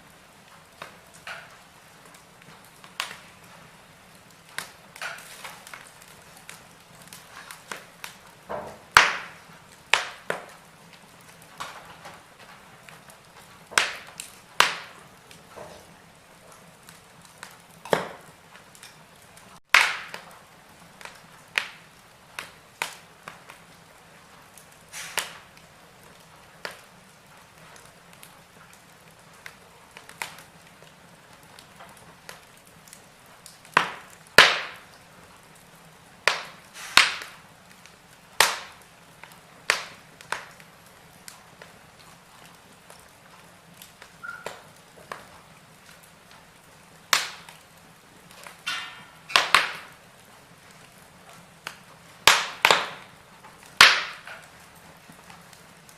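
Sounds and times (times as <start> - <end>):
faint steady hiss: 0.0 - 55.9
wood fire crackling and popping: 0.0 - 55.9.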